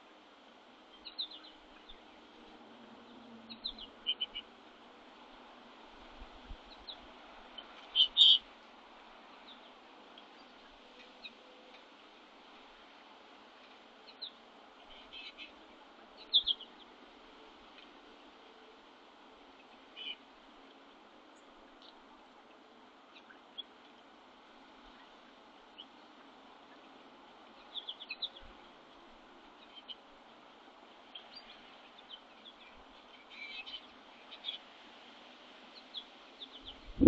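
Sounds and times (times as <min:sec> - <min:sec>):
faint steady hiss: 0:00.0 - 0:37.0
songbirds chirping: 0:00.0 - 0:37.0.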